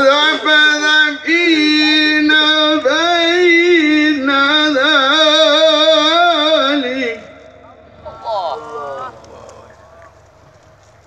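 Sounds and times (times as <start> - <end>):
man reciting over loudspeakers: 0.0 - 10.3.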